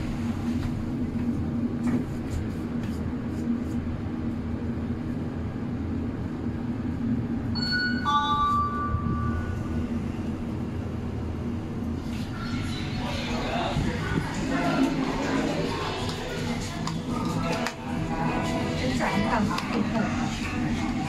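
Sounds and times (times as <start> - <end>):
elevator car humming: 4.0 - 21.0.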